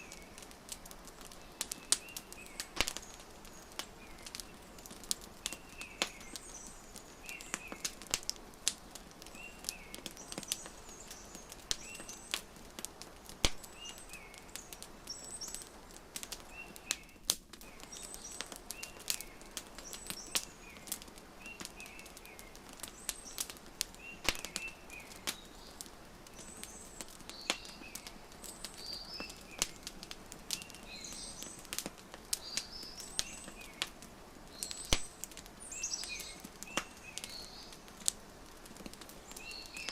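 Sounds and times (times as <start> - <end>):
small birds chirping: 0.0 - 39.9
wood fire crackling: 0.0 - 39.9.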